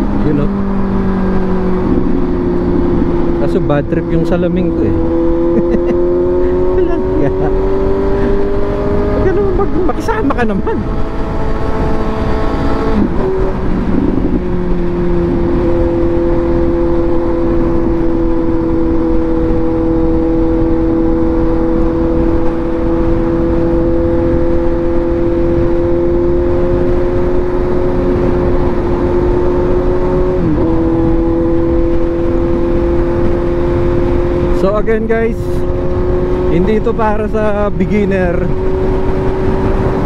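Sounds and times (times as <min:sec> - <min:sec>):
motorcycle engine running: 0:00.0 - 0:40.0
wind noise: 0:00.0 - 0:40.0.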